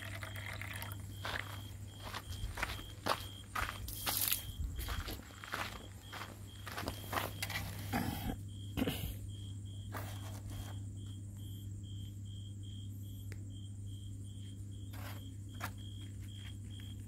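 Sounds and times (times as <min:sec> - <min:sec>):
cricket chirping: 0:00.0 - 0:17.0
steady low hum: 0:00.0 - 0:17.0.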